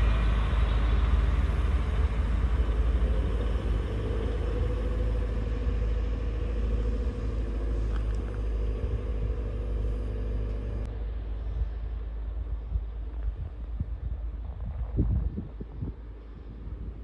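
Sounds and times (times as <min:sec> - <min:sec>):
diesel engine drone: 0:00.0 - 0:17.0
train rumbling: 0:00.0 - 0:17.0.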